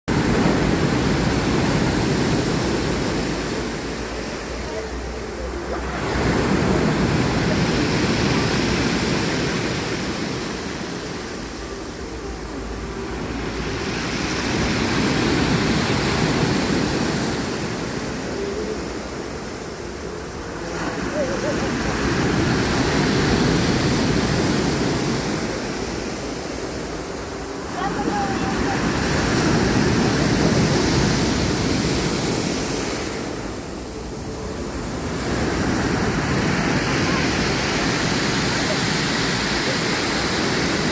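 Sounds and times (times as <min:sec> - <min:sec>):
sea surf washing onto shore: 0:00.1 - 0:40.9.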